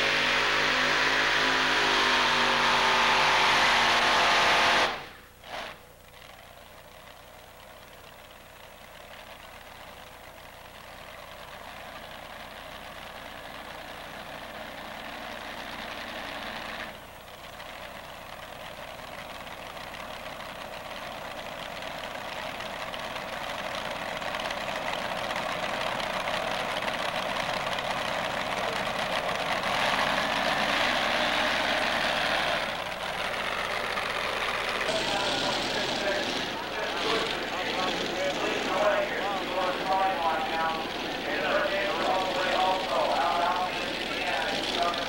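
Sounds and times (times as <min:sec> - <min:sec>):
tractor engine idling: 0:04.3 - 0:45.0.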